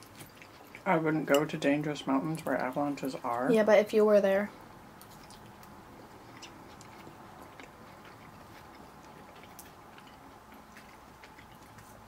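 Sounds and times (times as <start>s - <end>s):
people chewing: 0.0s - 3.5s, 4.5s - 12.0s.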